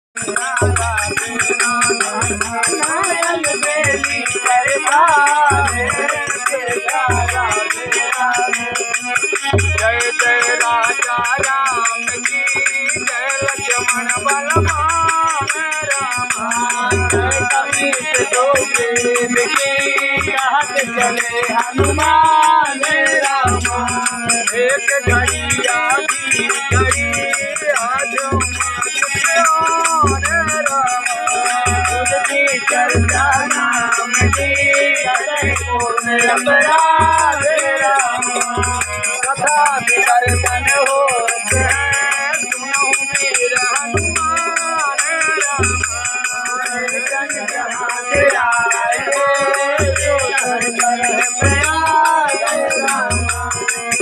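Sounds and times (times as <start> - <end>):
group singing devotional song: 0.2 - 54.0
harmonium: 0.2 - 54.0
jingling hand percussion: 0.2 - 54.0.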